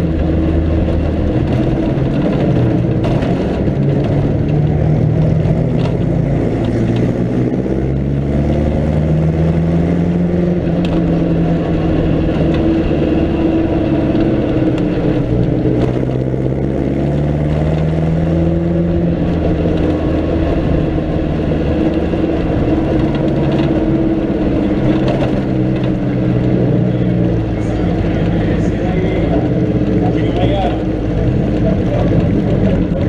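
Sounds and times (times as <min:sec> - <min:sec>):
car engine running hard: 0:00.0 - 0:33.0.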